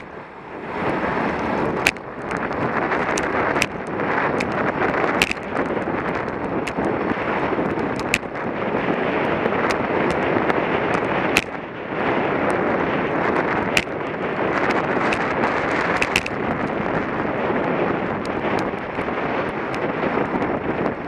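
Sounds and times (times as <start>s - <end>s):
bicycle knocks and rattles: 0.0s - 11.7s, 12.4s - 21.0s
wind rushing over microphone: 0.0s - 21.0s.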